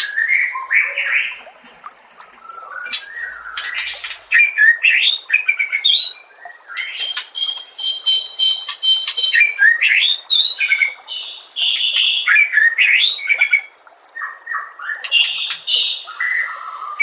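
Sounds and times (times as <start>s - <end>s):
bird singing a varied song: 0.0s - 1.5s, 2.4s - 17.0s.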